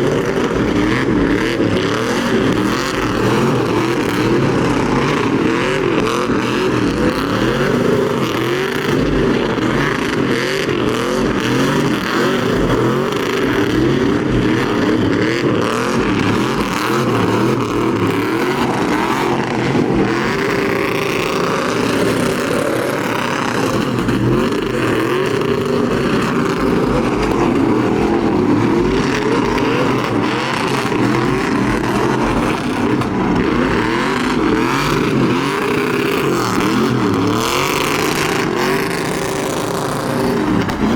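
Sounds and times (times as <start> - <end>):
truck engines revving: 0.0 - 40.9.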